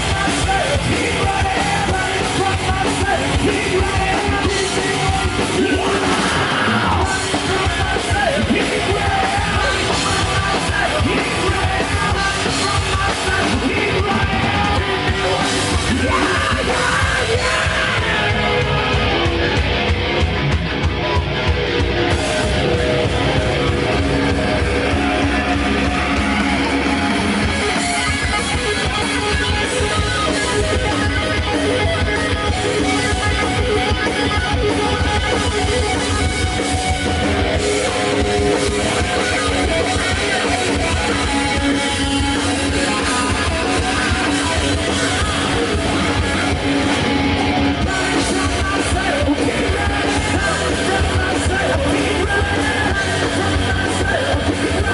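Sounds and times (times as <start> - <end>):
drum kit: 0.0 - 54.9
electric guitars: 0.0 - 54.9.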